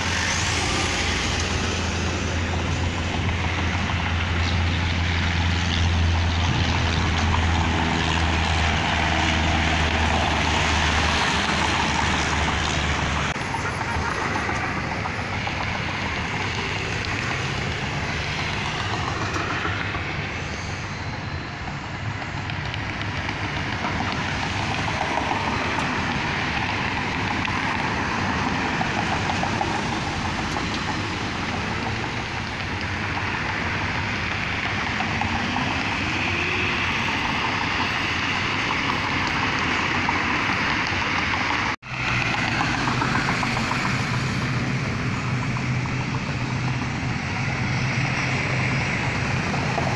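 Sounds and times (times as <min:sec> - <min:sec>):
cars passing: 0:00.0 - 0:49.9.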